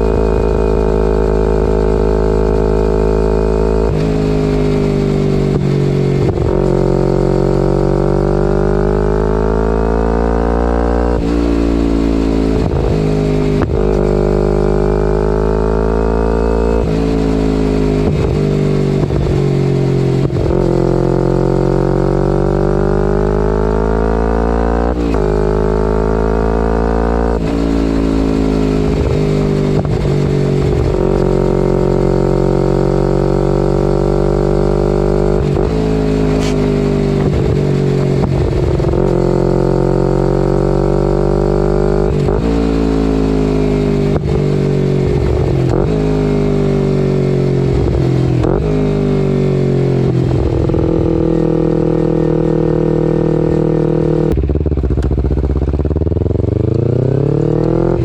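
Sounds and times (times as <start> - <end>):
motorcycle engine riding along: 0.0 - 58.0.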